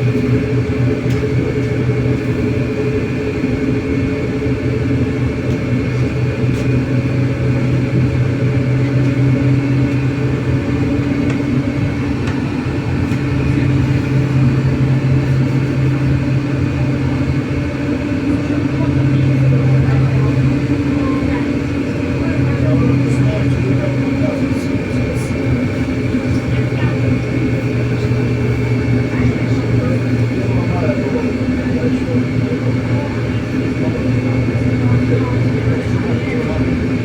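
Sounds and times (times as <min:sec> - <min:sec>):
road rumble: 0:00.0 - 0:37.0.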